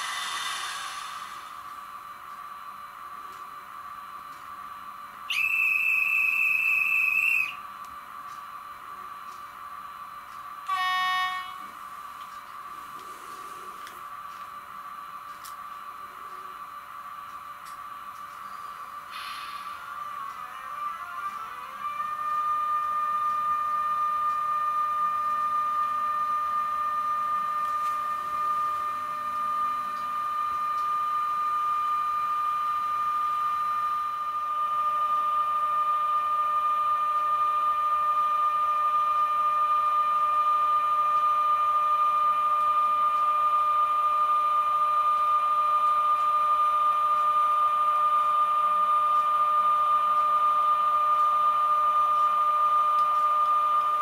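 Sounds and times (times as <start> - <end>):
model locomotive whine: 0.0 - 7.8, 8.5 - 54.0.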